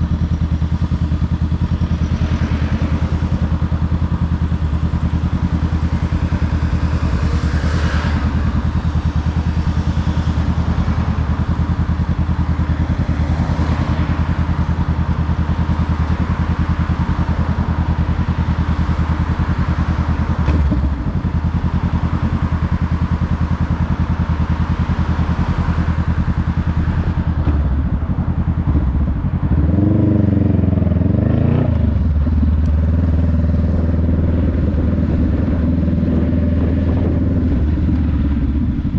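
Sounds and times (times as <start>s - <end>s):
motorcycle engine running: 0.0s - 38.9s
wind and road rush: 0.0s - 38.9s.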